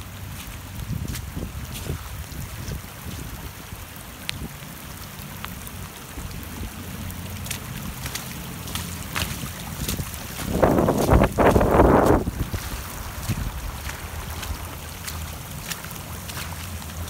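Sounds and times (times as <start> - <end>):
rushing floodwater: 0.0 - 17.0
wind buffeting microphone: 0.3 - 4.6, 6.0 - 16.5.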